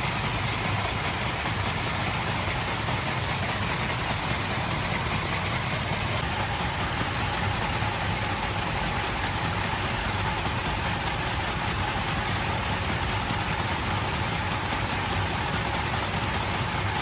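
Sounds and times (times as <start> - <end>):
machinery constant hum: 0.0 - 17.0
machinery rapid clatter: 0.0 - 17.0.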